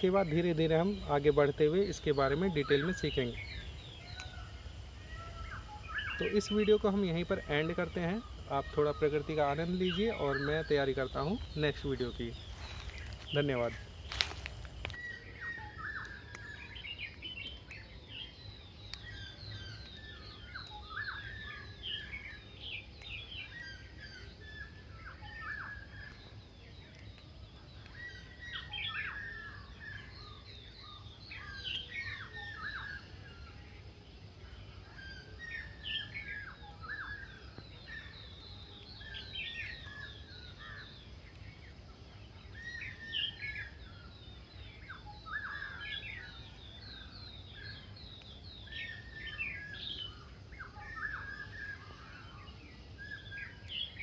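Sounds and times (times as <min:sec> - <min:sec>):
birds calling: 0:00.0 - 0:33.6, 0:34.4 - 0:54.0.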